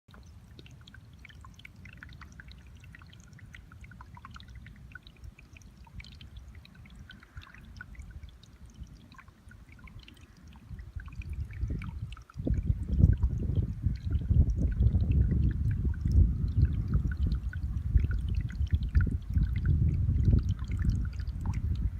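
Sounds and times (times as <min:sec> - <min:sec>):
water drips and splashes: 0:00.1 - 0:21.9
water trickling faintly: 0:00.1 - 0:21.9.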